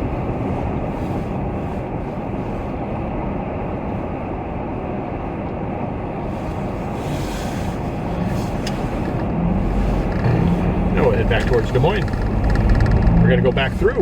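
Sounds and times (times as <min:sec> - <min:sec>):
car road noise from inside: 0:00.0 - 0:14.0.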